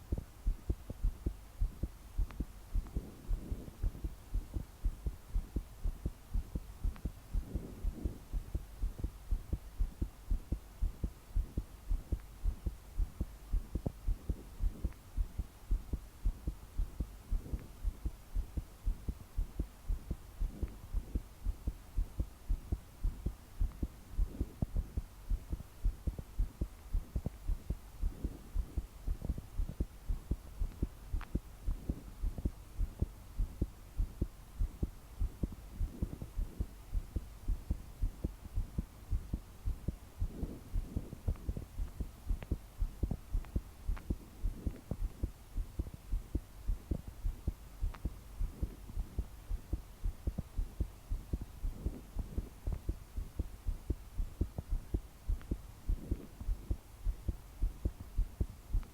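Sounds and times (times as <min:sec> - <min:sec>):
heart beating fast: 0:00.0 - 0:58.9.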